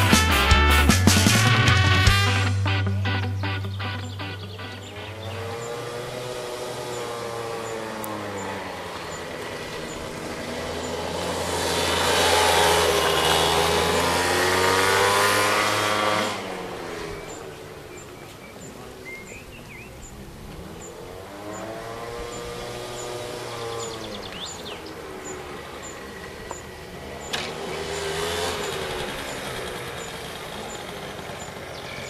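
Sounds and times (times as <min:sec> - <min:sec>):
vehicle engine shifting pitch: 0:00.0 - 0:32.0.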